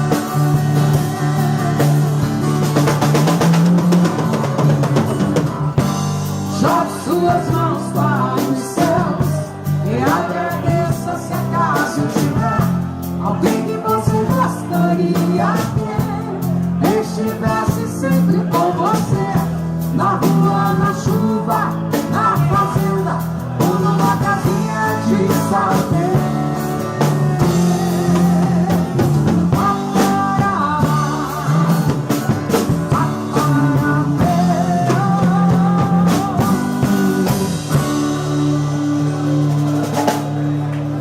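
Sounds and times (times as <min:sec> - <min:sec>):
live soft rock band: 0:00.0 - 0:41.0.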